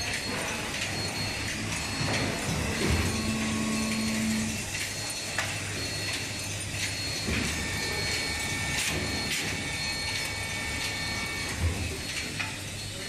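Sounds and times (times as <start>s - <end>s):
machinery humming with whine: 0.0s - 13.0s.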